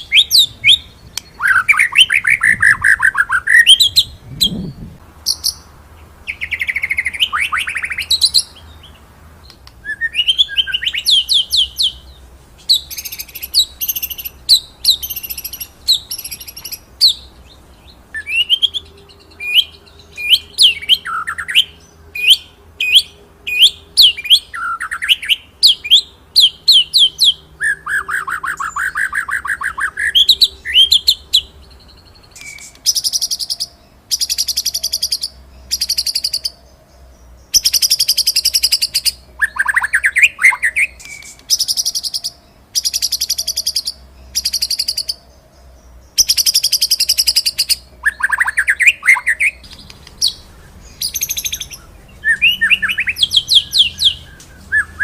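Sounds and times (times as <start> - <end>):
songbird trilling and whistling: 0.0 - 55.0.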